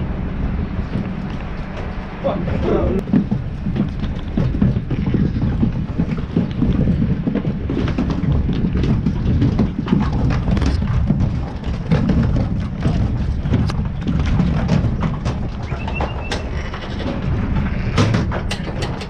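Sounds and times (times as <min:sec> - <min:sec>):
hooves clattering on metal deck: 0:00.0 - 0:19.0
wind buffeting microphone: 0:00.0 - 0:19.0.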